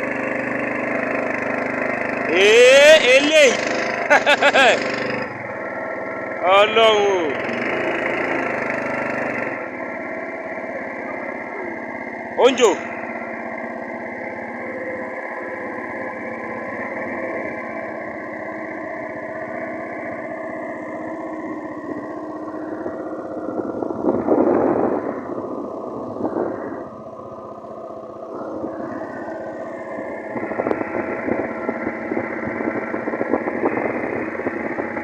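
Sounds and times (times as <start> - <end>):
small boat engine running: 0.0 - 35.0.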